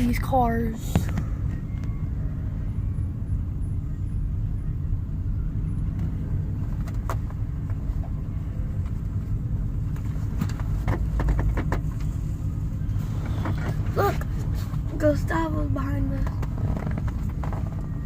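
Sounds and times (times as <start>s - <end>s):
car engine rumble from cabin: 0.0s - 18.0s.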